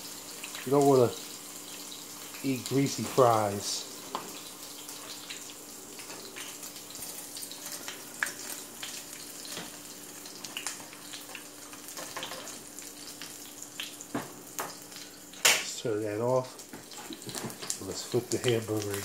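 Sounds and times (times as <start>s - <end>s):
fries sizzling in hot oil: 0.0s - 19.0s.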